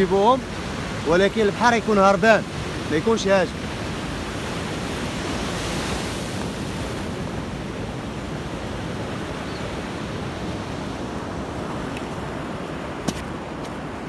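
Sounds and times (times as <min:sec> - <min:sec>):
sea waves washing up beach: 0:00.0 - 0:14.0.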